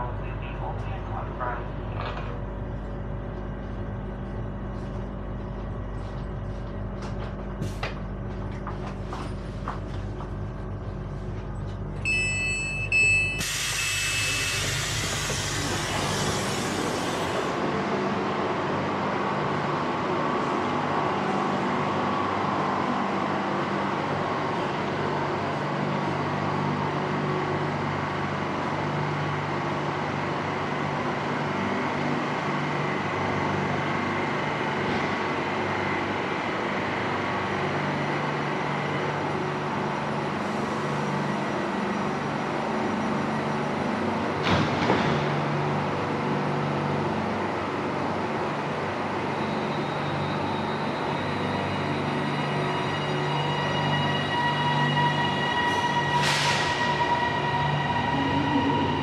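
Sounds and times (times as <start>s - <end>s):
train running rumble: 0.0s - 12.1s, 13.5s - 59.0s.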